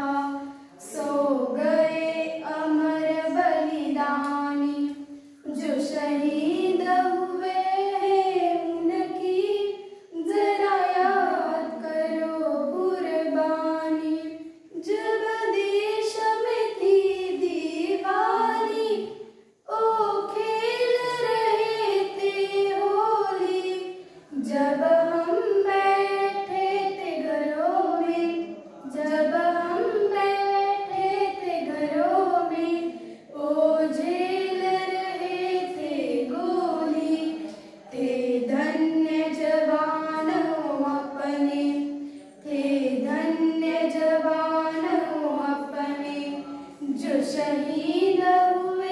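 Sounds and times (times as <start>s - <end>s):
girls singing unaccompanied: 0.0s - 48.9s.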